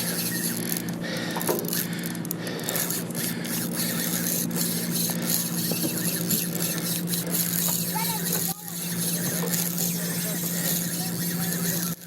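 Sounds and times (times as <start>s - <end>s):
boat engine hum: 0.0s - 12.0s
fishing reel drag peeling line: 0.0s - 12.0s.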